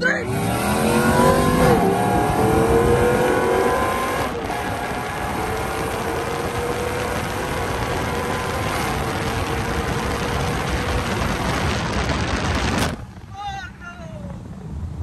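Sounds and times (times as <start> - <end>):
engine drone: 0.0 - 13.3
tyre and road noise: 0.0 - 15.0
wind rush: 0.3 - 15.0.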